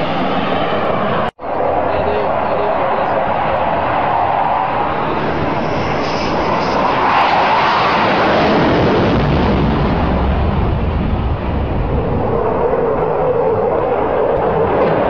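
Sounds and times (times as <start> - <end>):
fighter jet roar: 0.0 - 15.0.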